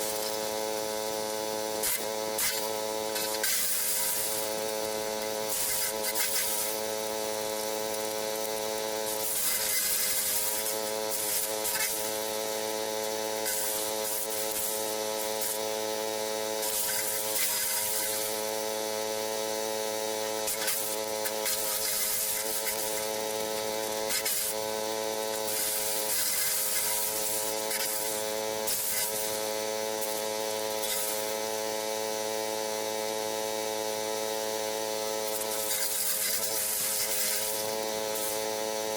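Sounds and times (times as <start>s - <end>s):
wood chipper engine running: 0.0s - 38.9s
wood chipper shredding cuttings: 0.0s - 38.9s.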